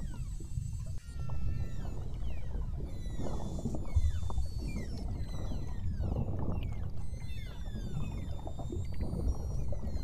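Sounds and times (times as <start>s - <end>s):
low underwater rumble: 0.0s - 10.0s
whales whistling underwater: 0.0s - 10.0s.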